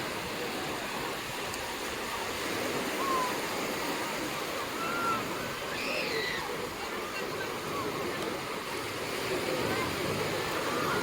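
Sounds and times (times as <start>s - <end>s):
faint distant voices: 0.0s - 11.0s
ocean surf washing ashore: 0.0s - 11.0s.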